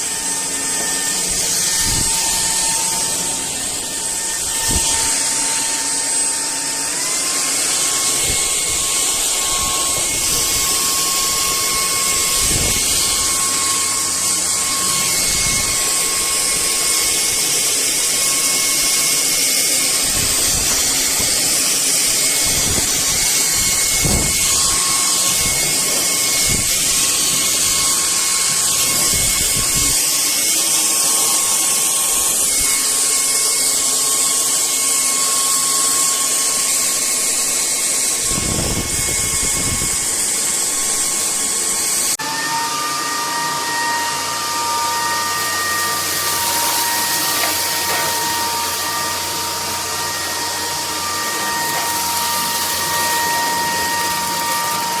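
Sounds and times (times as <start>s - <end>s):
stick vacuum motor whine: 0.0s - 55.0s.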